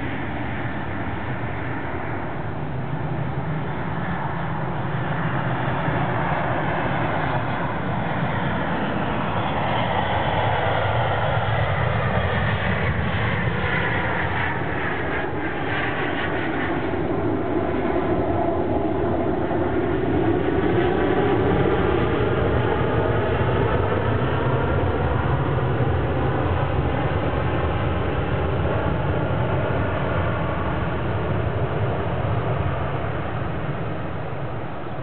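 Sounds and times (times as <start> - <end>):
jet engines landing: 0.0 - 35.0.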